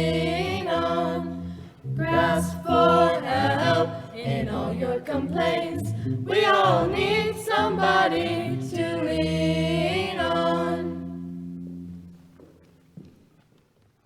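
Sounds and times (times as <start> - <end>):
choir singing: 0.0 - 11.3.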